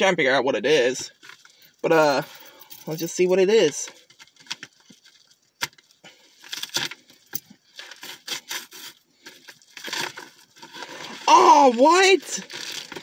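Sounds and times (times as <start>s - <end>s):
plastic bag crinkling: 1.2s - 13.0s.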